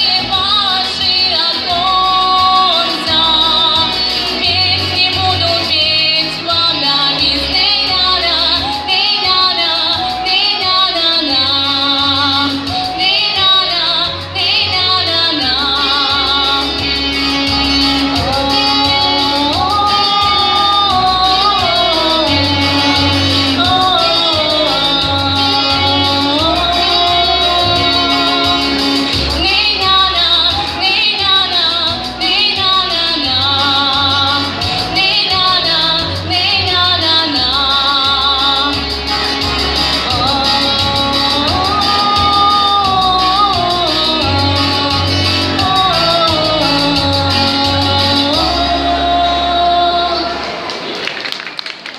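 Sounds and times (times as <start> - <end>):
woman singing pop song: 0.0 - 50.5
instrumental accompaniment: 0.0 - 50.9.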